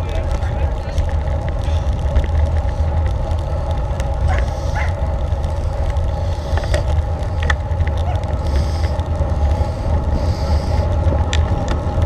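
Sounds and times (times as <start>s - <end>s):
tyres humming on tarmac: 0.0s - 12.0s
wind buffeting microphone: 0.0s - 12.0s.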